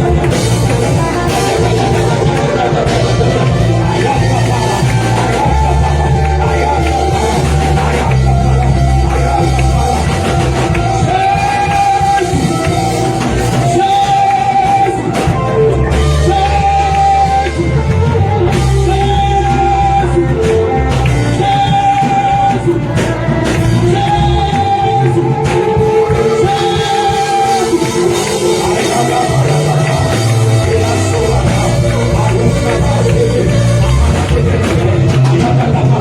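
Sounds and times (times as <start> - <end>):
band with heavy bass and drums: 0.0 - 36.0
people singing worship music: 0.0 - 36.0.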